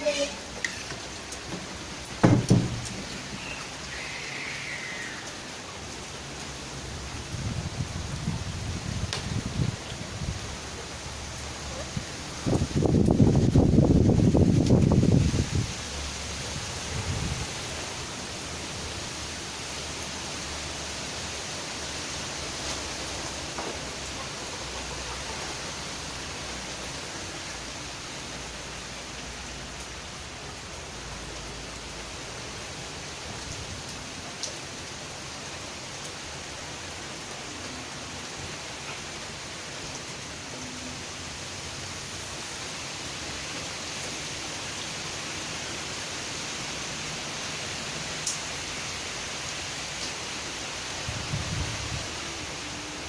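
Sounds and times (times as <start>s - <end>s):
heavy rain in strong wind: 0.0s - 53.0s.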